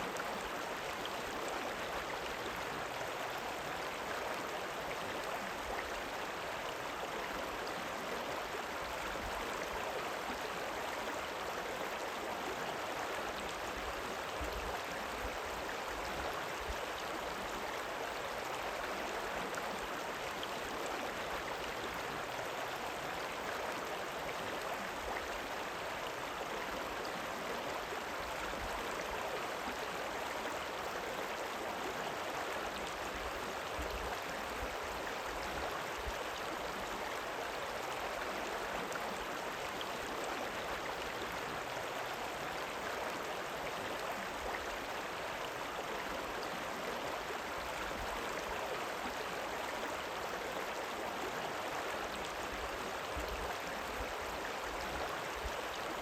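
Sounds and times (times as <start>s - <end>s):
river water rippling: 0.0s - 56.0s.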